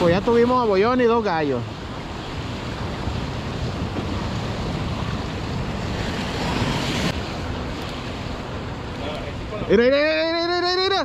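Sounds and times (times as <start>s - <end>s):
wind buffeting microphone: 0.0s - 9.7s
surf washing on a beach: 0.0s - 11.0s.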